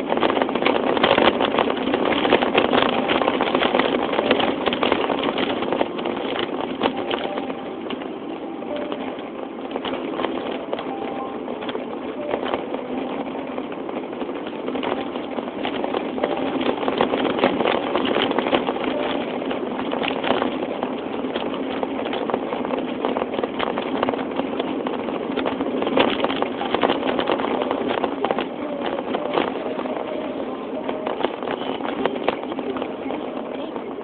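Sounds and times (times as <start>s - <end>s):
engine humming: 0.0s - 34.0s.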